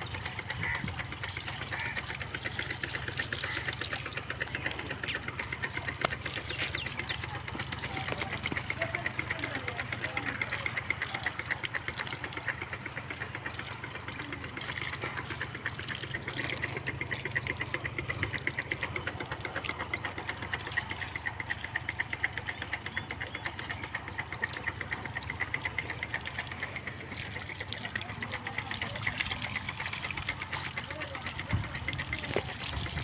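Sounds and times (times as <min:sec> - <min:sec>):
engine knocking: 0:00.0 - 0:33.0.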